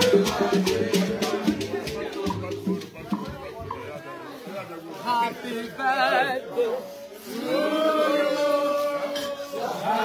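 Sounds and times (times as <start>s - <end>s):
voices singing or chanting: 0.0s - 10.0s.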